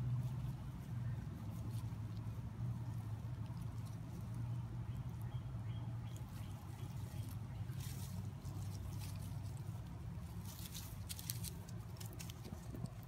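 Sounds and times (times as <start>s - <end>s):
grass and leaves rustling: 0.0s - 13.0s
low steady hum: 0.0s - 13.0s.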